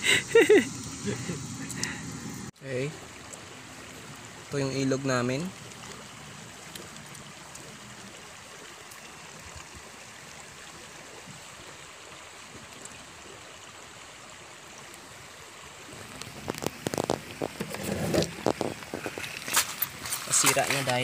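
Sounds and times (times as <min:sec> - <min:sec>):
river running over stones: 0:00.0 - 0:21.0.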